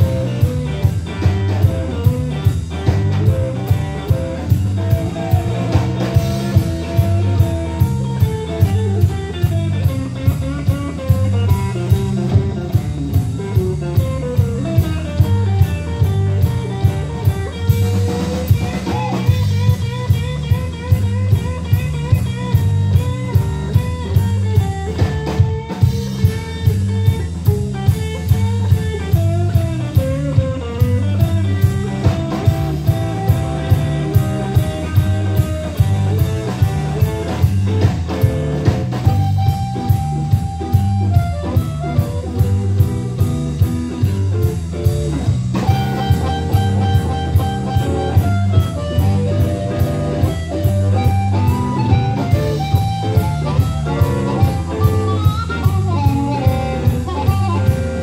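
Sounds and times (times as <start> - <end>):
bass guitar: 0.0 - 58.0
lead guitar bending notes: 0.0 - 58.0
steady drum beat: 0.0 - 58.0.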